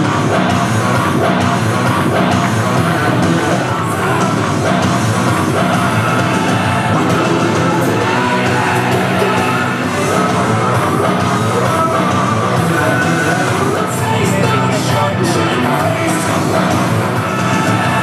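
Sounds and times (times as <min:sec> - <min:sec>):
loud rock music: 0:00.0 - 0:18.0
yelled vocals: 0:00.0 - 0:18.0.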